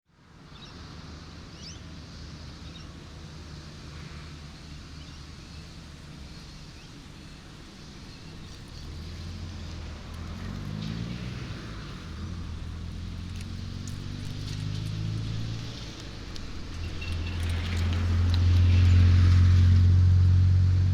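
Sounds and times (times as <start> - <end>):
vehicle engines rumbling: 0.2 - 20.9
vehicle engine revving: 2.7 - 20.9.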